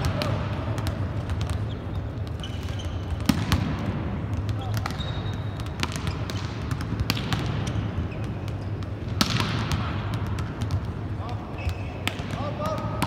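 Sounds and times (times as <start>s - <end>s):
volleyballs smacking in hall: 0.0s - 13.0s.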